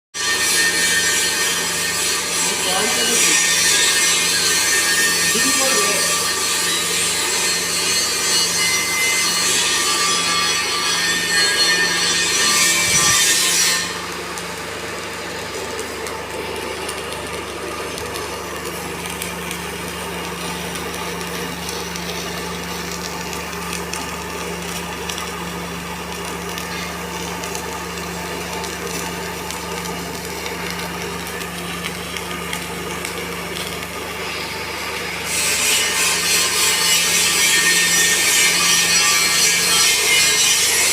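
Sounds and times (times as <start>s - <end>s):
welding arc crackling and hissing: 0.2s - 40.9s.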